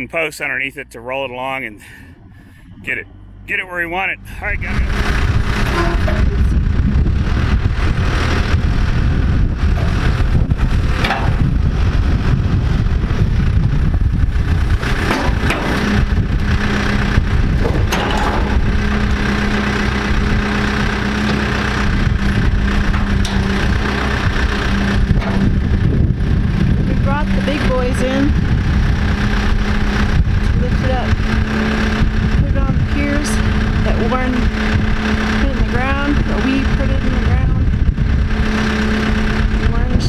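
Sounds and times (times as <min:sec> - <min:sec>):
diesel engine running under load: 0:00.0 - 0:40.0
steady hum: 0:00.0 - 0:40.0.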